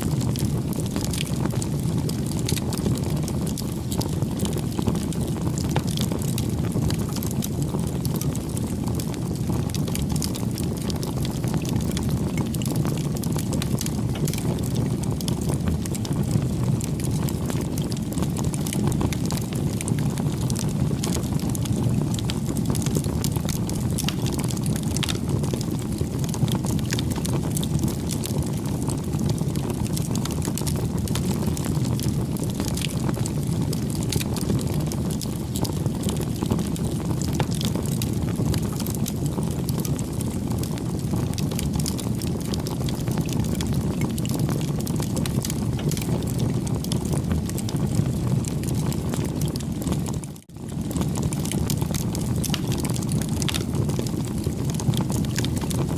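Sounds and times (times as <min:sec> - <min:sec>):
burning wood crackling and popping: 0:00.0 - 0:55.9
campfire flames rumbling: 0:00.0 - 0:55.9.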